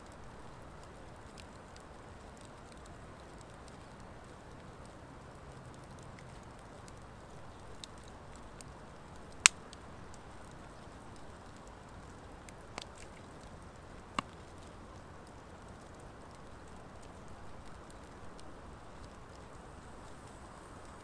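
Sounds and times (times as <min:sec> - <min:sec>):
wood fire hissing and popping: 0:00.0 - 0:21.0.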